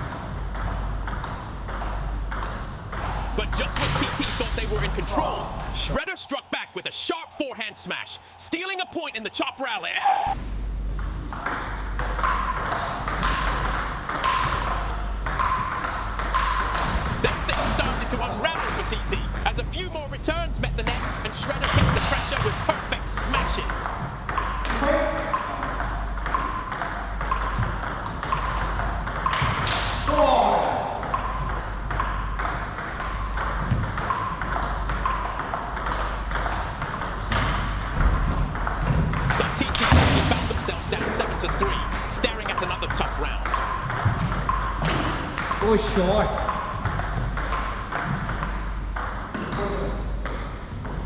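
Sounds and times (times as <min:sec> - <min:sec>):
table tennis ball rally: 0:00.0 - 0:10.4, 0:11.1 - 0:51.0
hall background hum: 0:00.0 - 0:51.0.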